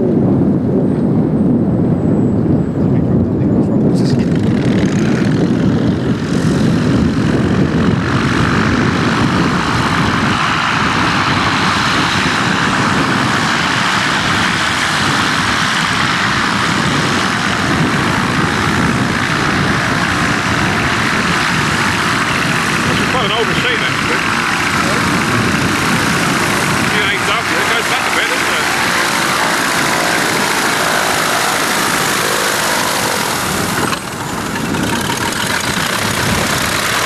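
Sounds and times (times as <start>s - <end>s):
propeller aircraft engine running: 0.0s - 37.0s.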